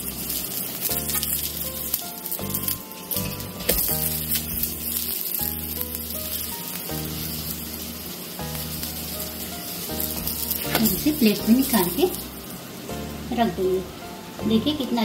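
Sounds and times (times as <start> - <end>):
background music with held notes: 0.0 - 15.0
ghee sizzling on a hot pan: 0.0 - 15.0.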